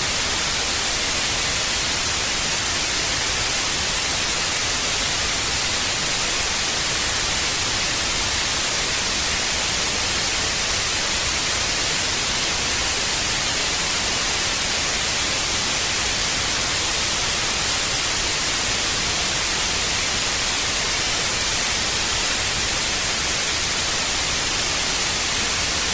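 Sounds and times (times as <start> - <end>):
television static hiss: 0.0 - 25.9.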